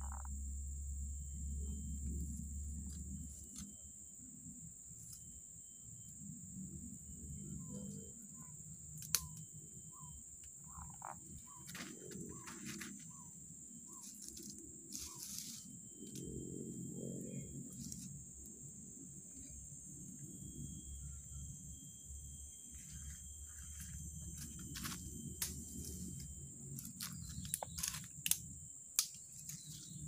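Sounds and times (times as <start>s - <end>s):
insect drone: 0.0s - 30.0s.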